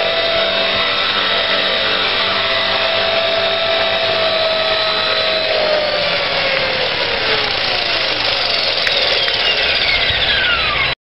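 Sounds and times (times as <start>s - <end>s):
model helicopter motors whining: 0.0s - 11.0s.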